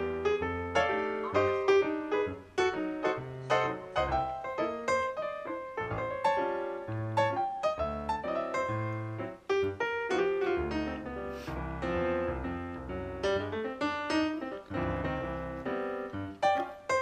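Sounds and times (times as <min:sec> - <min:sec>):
piano background music with bass: 0:00.0 - 0:17.0.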